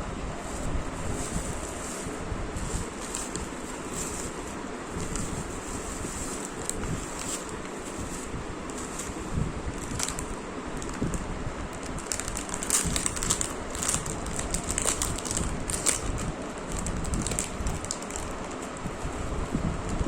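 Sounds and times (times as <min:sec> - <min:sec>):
packaging rustling and crinkling: 0:00.4 - 0:18.9.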